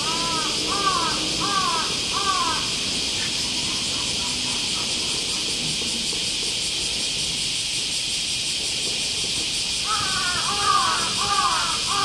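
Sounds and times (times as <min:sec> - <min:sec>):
cicadas chorus: 0:00.0 - 0:12.0.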